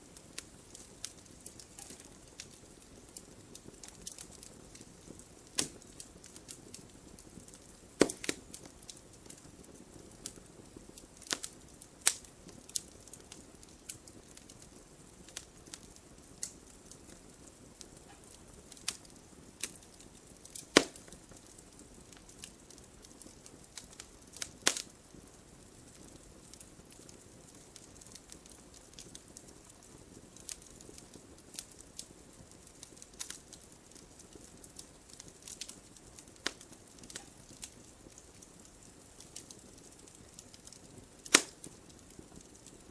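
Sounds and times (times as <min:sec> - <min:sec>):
fire popping and snapping: 0:00.0 - 0:42.9
wood fire crackling: 0:00.0 - 0:42.9.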